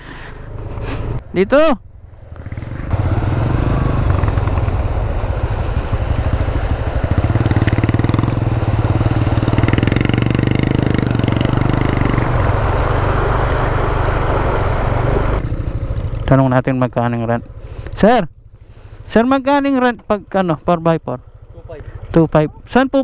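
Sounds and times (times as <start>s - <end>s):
scooter engine running: 1.9s - 20.6s.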